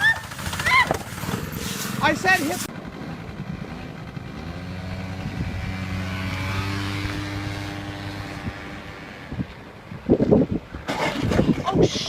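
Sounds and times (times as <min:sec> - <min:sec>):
minibike engine running: 0:00.0 - 0:11.4.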